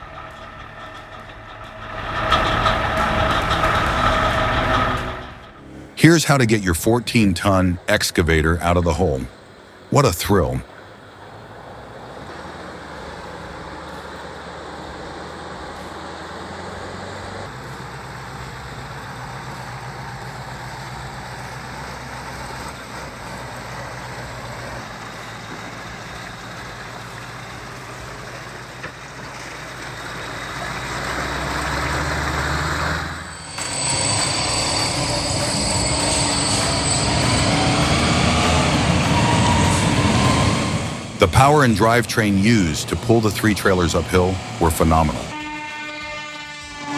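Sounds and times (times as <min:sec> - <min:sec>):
excavator diesel engine under load: 0:00.0 - 0:45.4.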